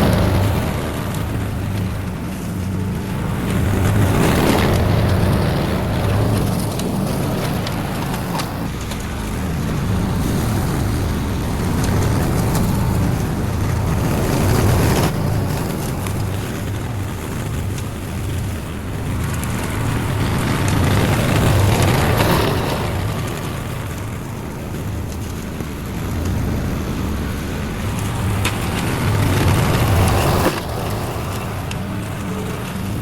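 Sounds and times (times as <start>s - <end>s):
lawn mower engine cutting grass: 0.0s - 33.0s.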